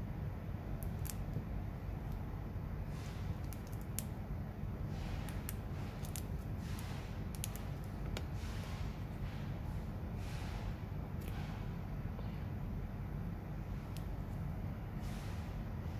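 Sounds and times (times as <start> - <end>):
low background rumble: 0.0 - 15.9.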